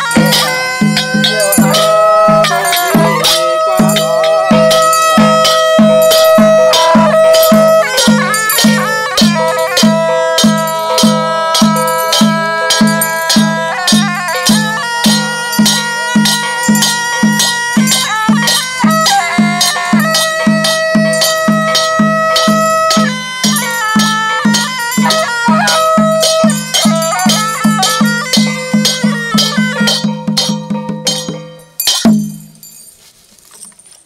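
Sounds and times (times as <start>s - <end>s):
drum beat: 0.0s - 32.6s
small cymbals clashing: 0.0s - 33.8s
shawm melody: 0.0s - 34.0s.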